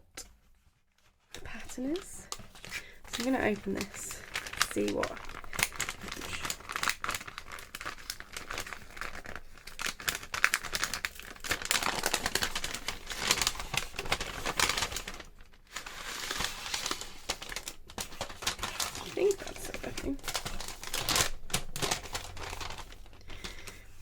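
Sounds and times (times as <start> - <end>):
packaging crinkling and rustling: 0.3 - 24.0
packaging tearing: 1.7 - 23.9.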